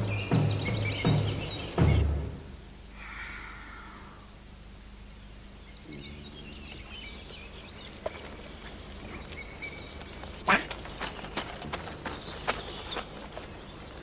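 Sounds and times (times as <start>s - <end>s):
birds chirping and twittering: 0.0s - 14.0s
faint steady hum: 0.0s - 14.0s.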